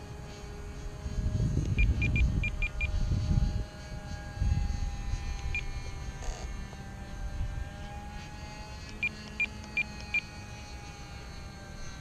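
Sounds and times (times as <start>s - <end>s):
model airplane engine whine: 0.0s - 12.0s.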